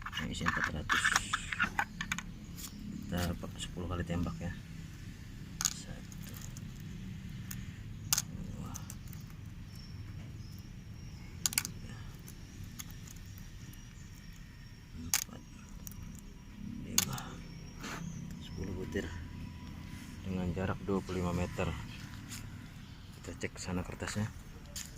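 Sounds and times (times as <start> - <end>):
low hum: 0.9 - 24.7.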